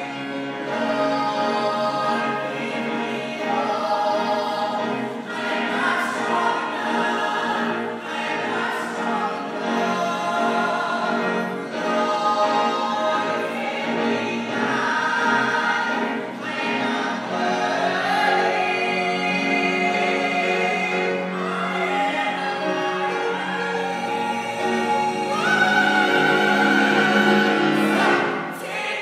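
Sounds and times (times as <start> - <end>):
vocal ensemble singing in harmony: 0.0 - 29.0.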